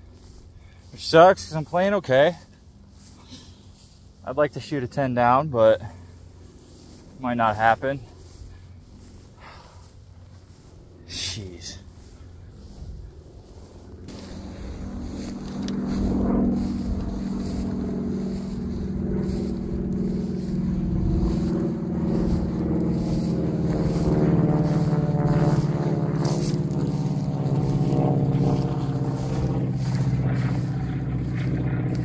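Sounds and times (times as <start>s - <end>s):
engine humming steadily: 0.0s - 32.0s.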